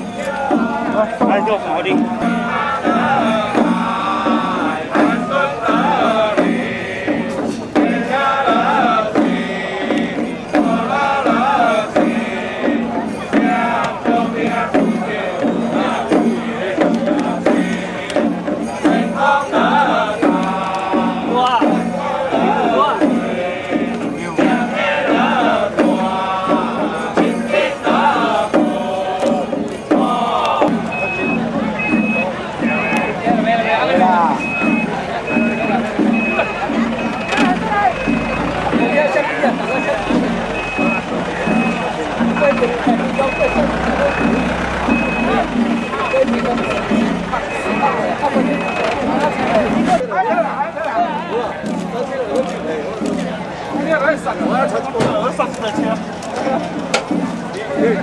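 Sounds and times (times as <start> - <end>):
chanted singing: 0.0 - 50.2.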